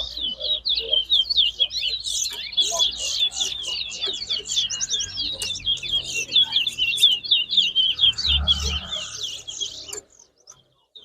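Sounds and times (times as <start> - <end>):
finch twittering song: 0.0 - 11.0.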